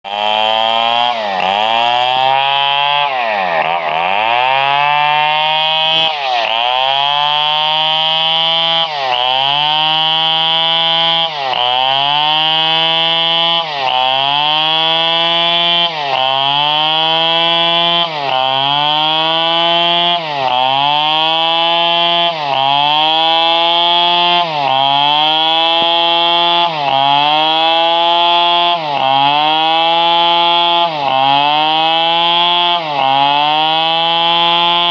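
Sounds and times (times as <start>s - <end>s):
chainsaw revving: 0.1s - 34.9s.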